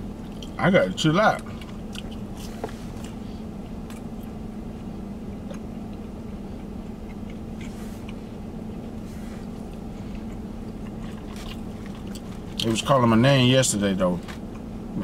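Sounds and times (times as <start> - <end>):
truck cab hum: 0.0 - 15.0.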